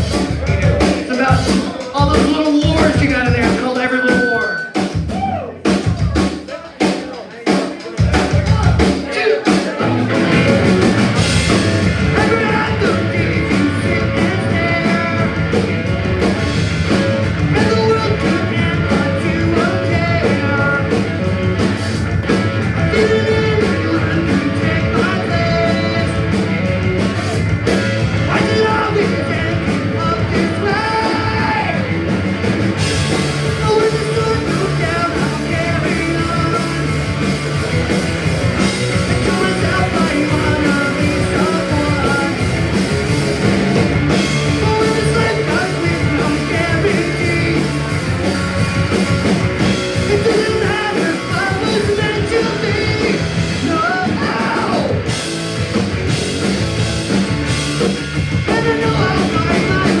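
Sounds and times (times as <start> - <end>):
drum kit: 0.0 - 60.0
punk rock band playing: 0.0 - 60.0
person singing: 0.1 - 15.8, 16.4 - 21.2, 22.8 - 26.5, 27.1 - 31.9, 33.1 - 37.5, 38.5 - 42.9, 44.1 - 48.4, 49.6 - 55.1, 58.3 - 60.0.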